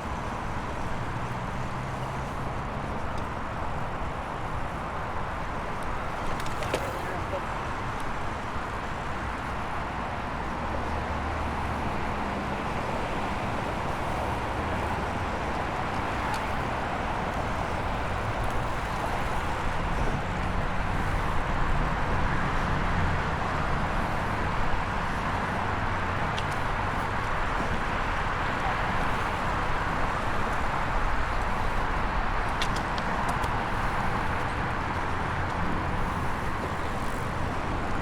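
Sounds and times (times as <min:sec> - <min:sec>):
passing vehicles rumbling: 0:00.0 - 0:38.0.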